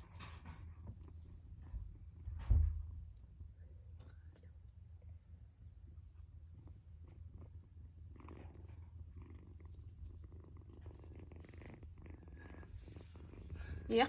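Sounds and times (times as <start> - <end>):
kitten purring: 0.0 - 14.0
soft ticks and rustles: 0.0 - 14.0.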